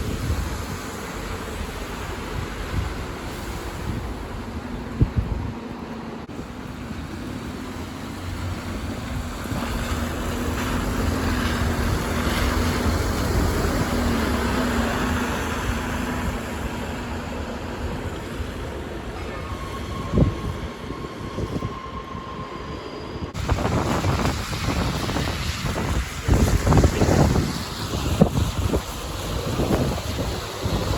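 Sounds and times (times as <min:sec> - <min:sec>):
bus engine drone: 0:00.0 - 0:30.9
wind buffeting microphone: 0:00.0 - 0:30.9.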